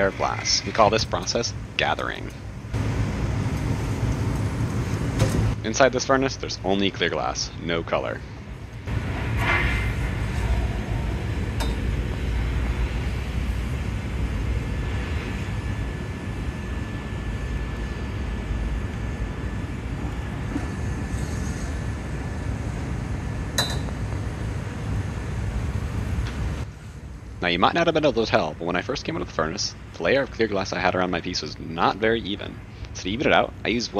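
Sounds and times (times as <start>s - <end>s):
low rumble of equipment: 0.0s - 33.9s.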